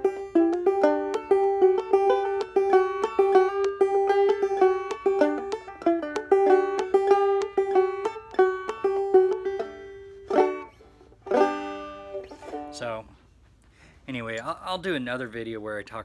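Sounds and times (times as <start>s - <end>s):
banjo plucked notes: 0.0s - 13.0s.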